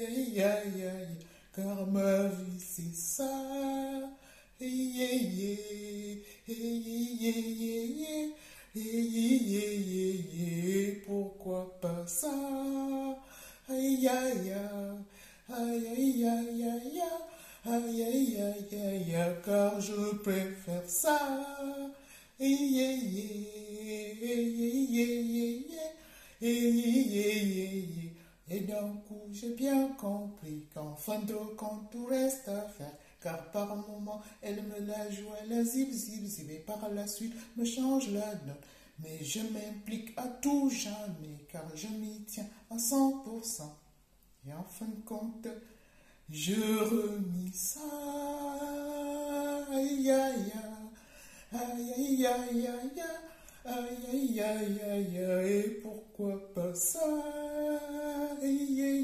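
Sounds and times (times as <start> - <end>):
woman singing unaccompanied: 0.0 - 43.7, 51.5 - 59.0.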